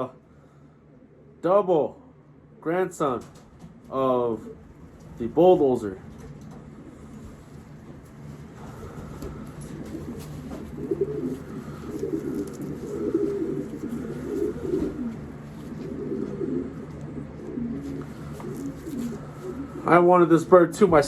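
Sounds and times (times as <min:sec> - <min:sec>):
pigeons cooing: 0:00.0 - 0:01.4, 0:03.2 - 0:21.0
steady low hum: 0:00.0 - 0:21.0.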